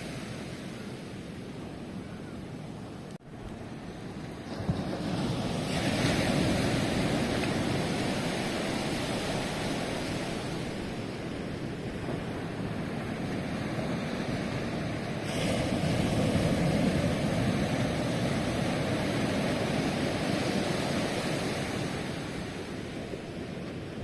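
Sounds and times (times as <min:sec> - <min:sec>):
ocean waves crashing: 0:00.0 - 0:24.0.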